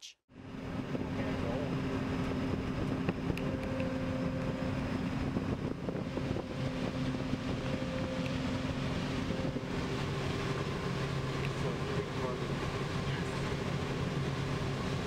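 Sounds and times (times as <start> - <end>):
combine harvester drone: 0.3 - 15.0.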